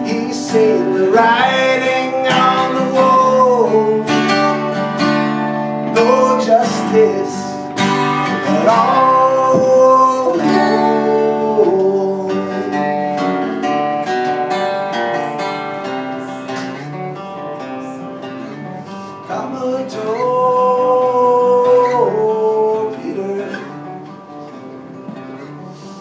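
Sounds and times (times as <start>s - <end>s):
person singing: 0.0s - 13.6s, 14.7s - 24.1s
acoustic guitar playing: 0.0s - 26.0s.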